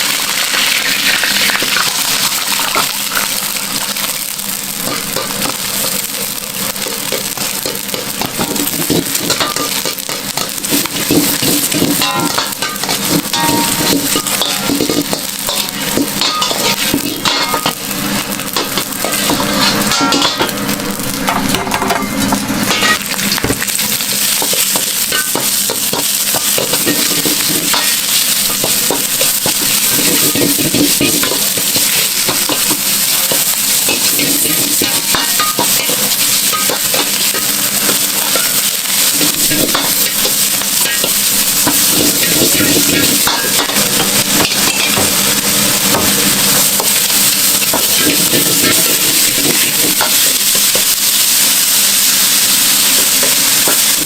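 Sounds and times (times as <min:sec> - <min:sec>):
noodles sizzling on a griddle: 0:00.0 - 0:54.0.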